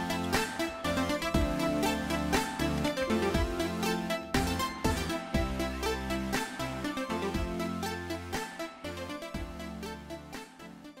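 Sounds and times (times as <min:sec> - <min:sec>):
electronic music with bass and beat: 0:00.0 - 0:11.0.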